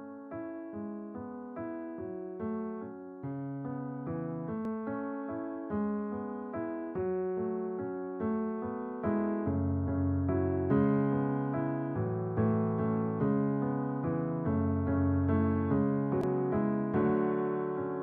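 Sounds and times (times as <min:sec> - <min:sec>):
slow gentle piano notes: 0:00.0 - 0:18.0.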